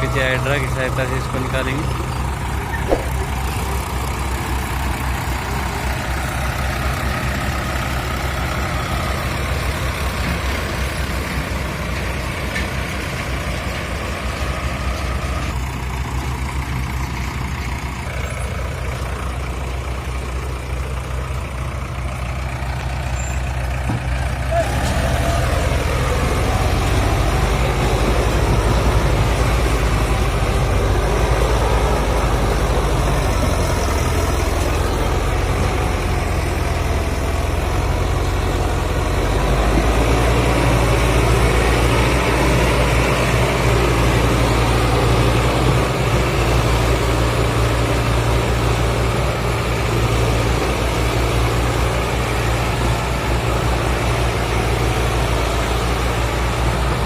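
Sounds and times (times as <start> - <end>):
tractor diesel engine straining: 0.0 - 57.0.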